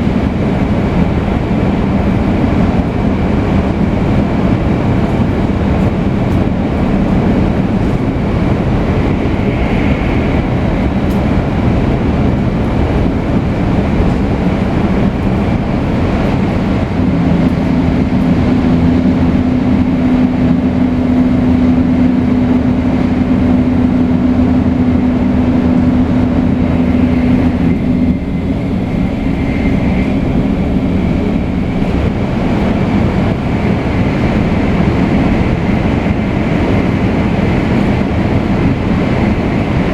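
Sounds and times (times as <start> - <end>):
train running at speed: 0.0 - 39.9.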